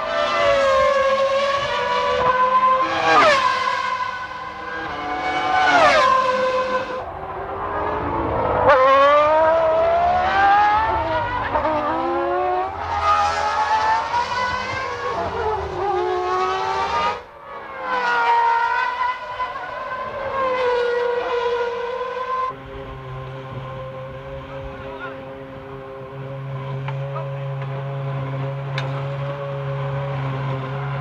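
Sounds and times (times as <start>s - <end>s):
racing car engines at high revs: 0.0s - 31.0s.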